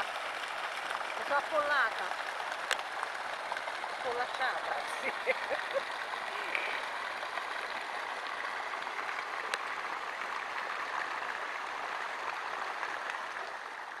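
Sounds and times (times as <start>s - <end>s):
splashing water rushing: 0.0s - 14.0s.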